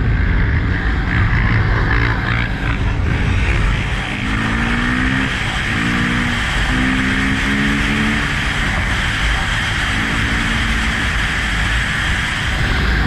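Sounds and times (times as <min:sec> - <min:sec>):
dirt bike engine running: 0:00.0 - 0:13.0
wind rush on microphone: 0:00.0 - 0:13.0.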